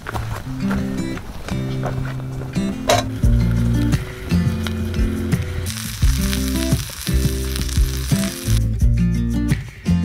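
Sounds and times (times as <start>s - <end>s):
background music with bass chords: 0.6s - 10.0s.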